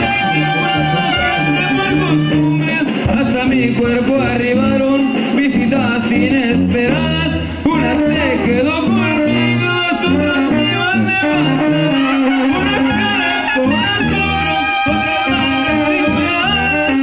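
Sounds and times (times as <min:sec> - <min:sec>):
brass band music: 0:00.0 - 0:17.0
drums: 0:00.0 - 0:17.0
sousaphone bass line: 0:00.0 - 0:17.0.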